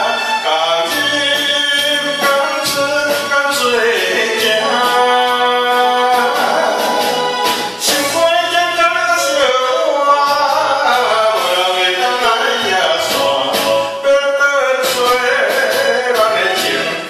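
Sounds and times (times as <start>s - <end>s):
karaoke backing track: 0.0s - 17.0s
man singing into microphone: 0.0s - 17.0s.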